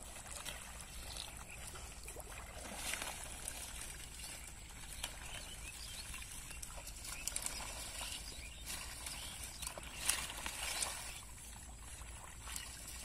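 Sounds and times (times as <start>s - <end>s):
leaves rustling: 0.0s - 13.0s
small water splashes: 0.0s - 13.0s.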